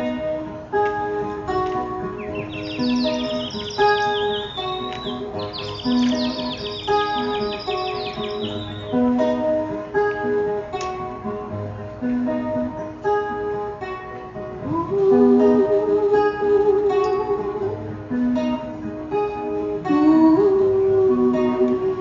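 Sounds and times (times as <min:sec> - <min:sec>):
wavering sliding melody line: 0:00.0 - 0:18.8
acoustic guitar strumming: 0:00.0 - 0:22.0.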